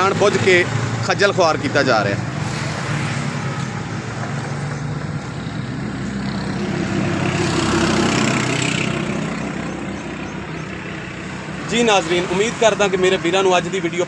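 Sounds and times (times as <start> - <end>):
engine running steadily: 0.0 - 14.0
vehicle passing by: 0.0 - 14.0.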